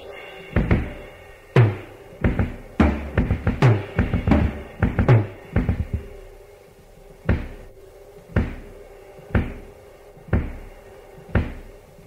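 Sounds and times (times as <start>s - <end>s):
deep drum beats: 0.5s - 6.4s, 7.2s - 11.8s.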